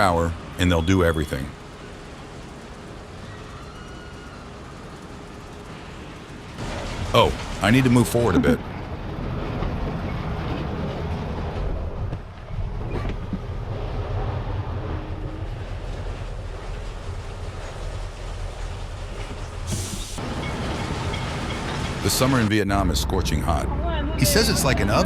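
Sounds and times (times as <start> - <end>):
truck diesel engine running: 0.0 - 12.2, 15.4 - 23.8.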